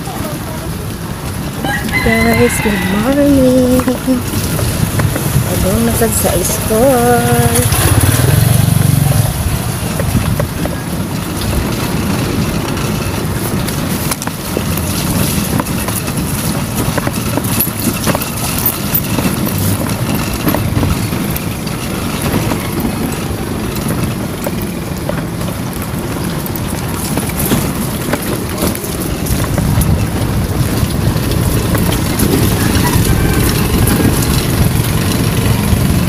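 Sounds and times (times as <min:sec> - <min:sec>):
motorcycle engine running: 0:00.0 - 0:36.0
road rumble: 0:00.0 - 0:36.0.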